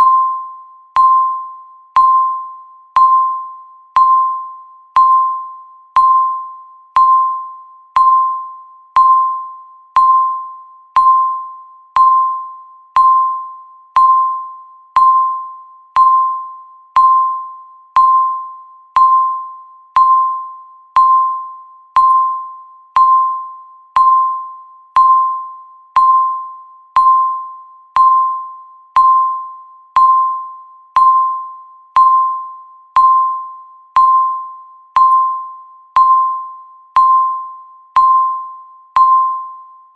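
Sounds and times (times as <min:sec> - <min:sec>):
electronic timer beep: 0:00.0 - 0:39.9.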